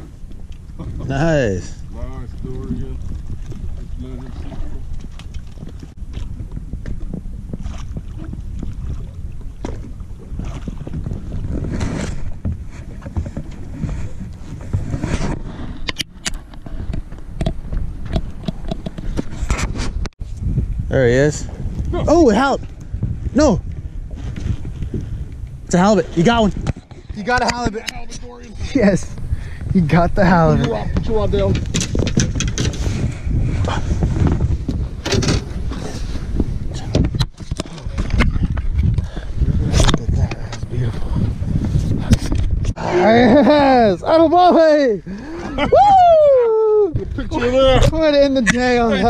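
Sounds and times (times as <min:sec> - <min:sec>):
wind rumbling on microphone: 0:00.0 - 0:49.0.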